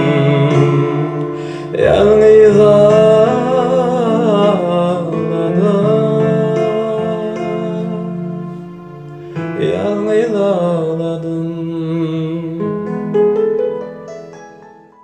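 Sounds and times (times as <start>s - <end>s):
electronic keyboard chords: 0.0s - 15.0s.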